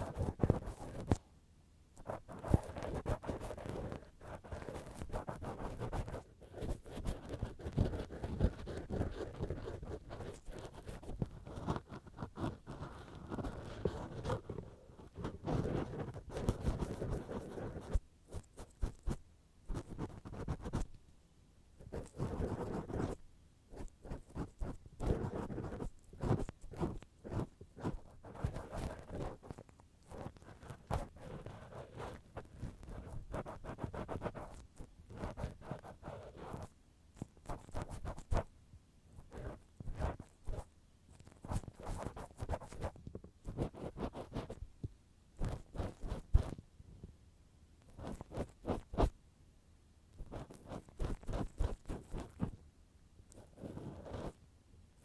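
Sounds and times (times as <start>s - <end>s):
tools scratching on microphone: 0.0s - 1.2s, 2.0s - 21.0s, 21.8s - 38.5s, 39.2s - 44.7s, 45.4s - 46.6s, 47.8s - 49.2s, 50.2s - 52.6s, 53.3s - 54.4s.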